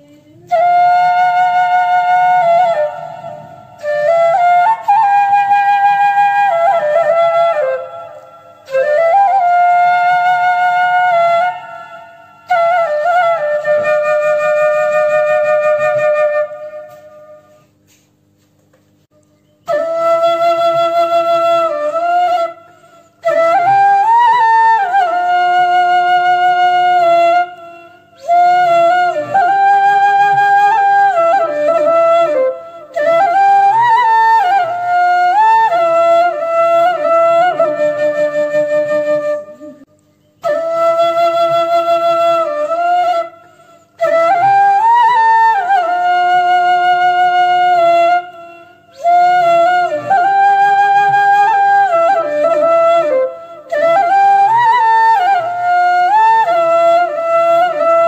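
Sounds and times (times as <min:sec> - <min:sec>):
solo flute-like melody: 0:00.0 - 0:18.1, 0:19.2 - 0:58.0.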